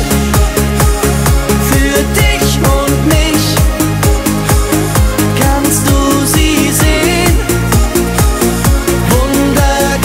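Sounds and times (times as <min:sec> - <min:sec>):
upbeat electronic dance-pop music: 0:00.0 - 0:10.0.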